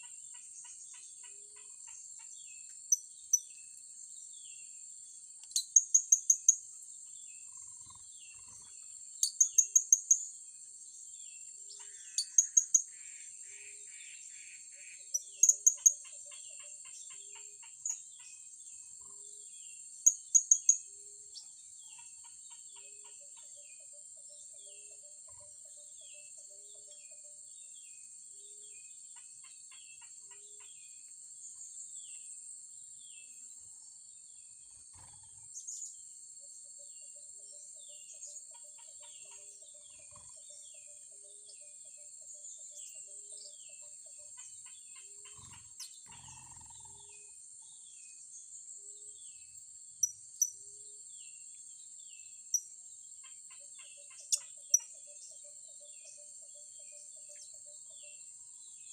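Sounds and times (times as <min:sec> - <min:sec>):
small bird chirps: 0:00.0 - 0:32.4, 0:34.4 - 0:58.9
insects droning: 0:00.0 - 0:58.9.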